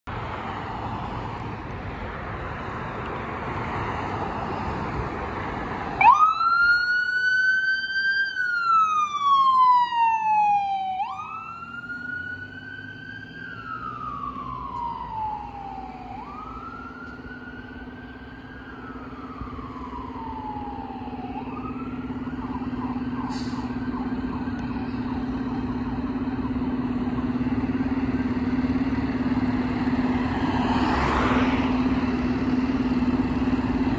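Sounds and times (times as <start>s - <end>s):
passing traffic: 0.0s - 33.9s
ambulance siren wailing: 3.7s - 33.9s.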